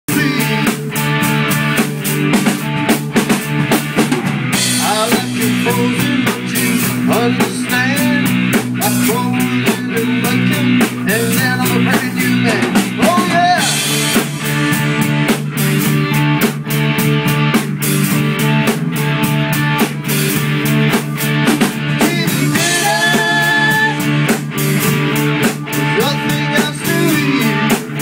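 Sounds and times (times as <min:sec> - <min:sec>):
rock music with drums and bass: 0:00.1 - 0:28.0.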